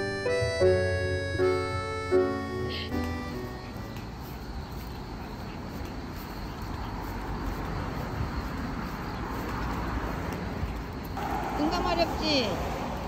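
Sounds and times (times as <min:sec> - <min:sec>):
even street hiss: 0:00.0 - 0:13.0.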